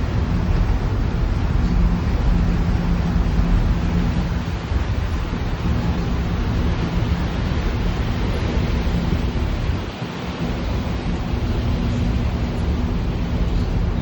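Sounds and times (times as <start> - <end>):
ferry engines droning: 0.0 - 14.0
wind rumble on microphone: 0.0 - 14.0.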